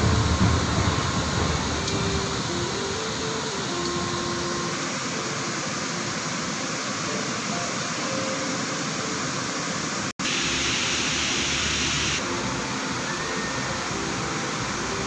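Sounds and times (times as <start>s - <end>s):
river rapids and waterfall rushing: 0.0s - 15.0s.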